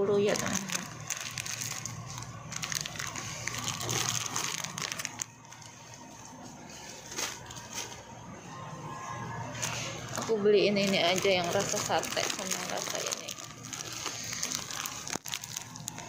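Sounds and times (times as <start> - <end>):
plastic packets crinkling: 0.2 - 6.1, 6.7 - 8.1, 9.6 - 16.0.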